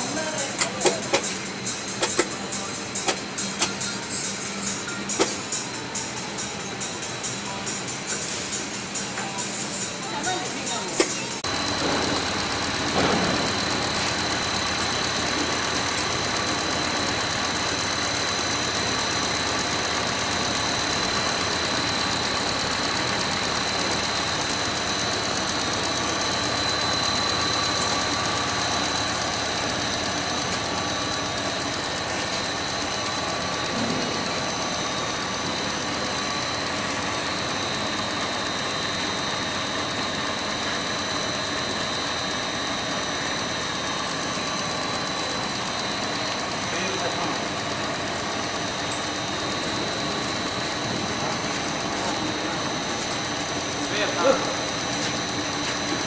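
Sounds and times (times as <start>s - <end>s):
machine humming: 0.0s - 56.0s.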